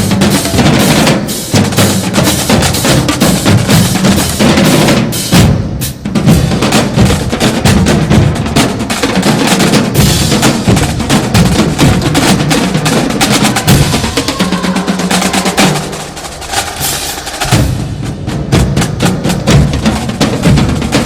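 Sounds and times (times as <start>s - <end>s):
drum-heavy dance music: 0.0s - 21.0s.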